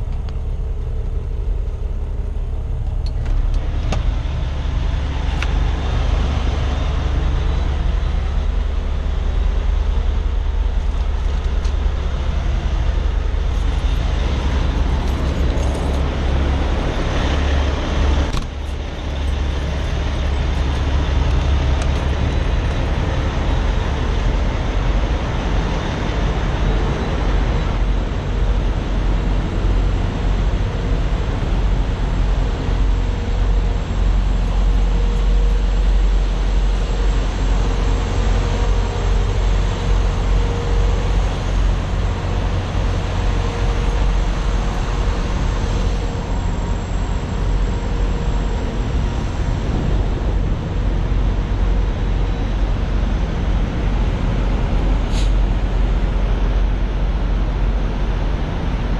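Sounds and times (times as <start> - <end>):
diesel trucks idling: 0.0 - 58.9
refrigeration units humming: 0.0 - 58.9.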